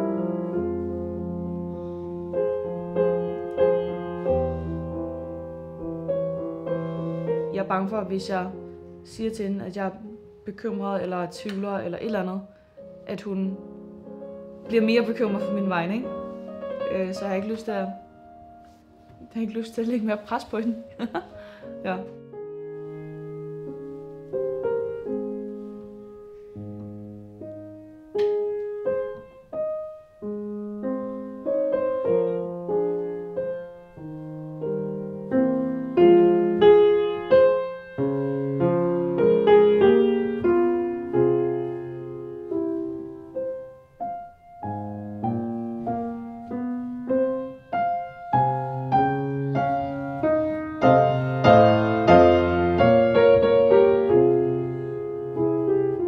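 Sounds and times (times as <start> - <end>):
grand piano classical piece: 0.0 - 56.0.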